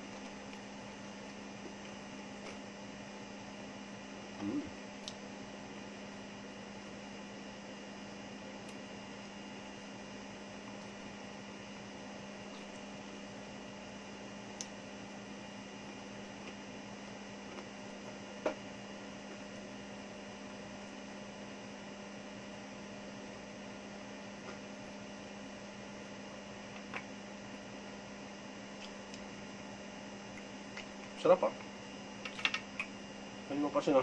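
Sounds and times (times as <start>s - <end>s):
electrical hum with hiss: 0.0s - 34.0s.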